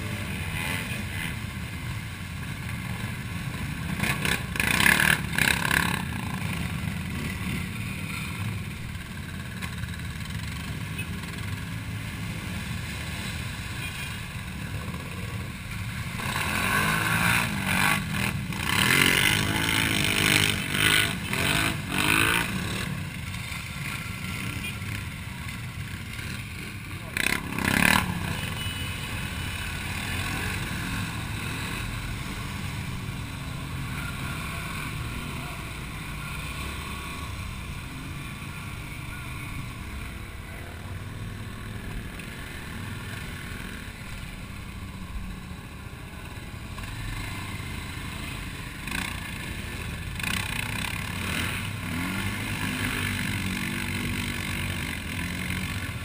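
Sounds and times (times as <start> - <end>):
quad bike engine running: 0.0 - 13.9, 14.6 - 56.0.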